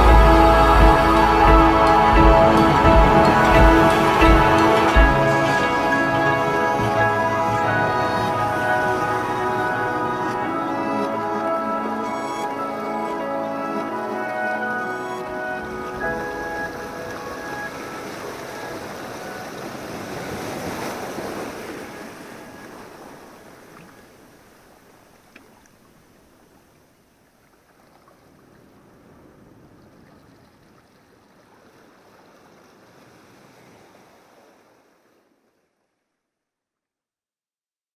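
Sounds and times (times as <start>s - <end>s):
sea water washing and splashing: 0.0s - 35.8s.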